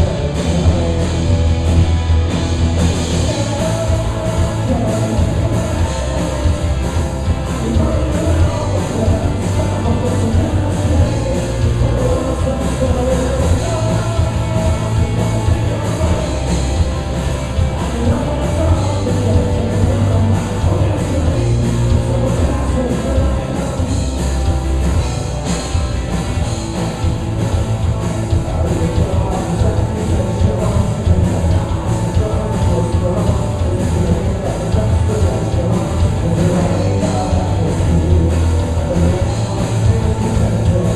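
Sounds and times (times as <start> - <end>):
lead vocal singing: 0.0 - 1.6, 2.9 - 25.1, 27.9 - 40.9
drum kit beat: 0.0 - 40.9
loud guitars and bass: 0.0 - 40.9.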